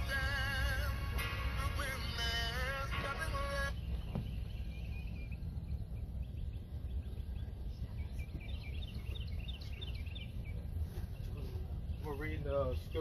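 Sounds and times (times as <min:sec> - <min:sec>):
steady low rumble: 0:00.0 - 0:13.0
small birds chirping: 0:01.7 - 0:13.0.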